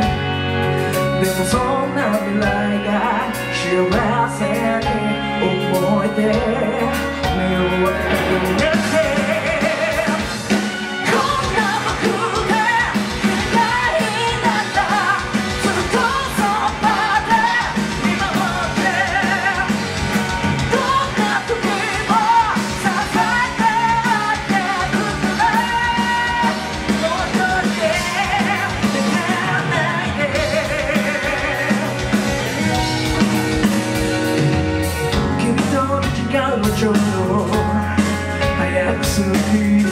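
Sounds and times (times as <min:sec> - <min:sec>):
person singing: 0:00.0 - 0:39.9
rock band playing: 0:00.0 - 0:39.9.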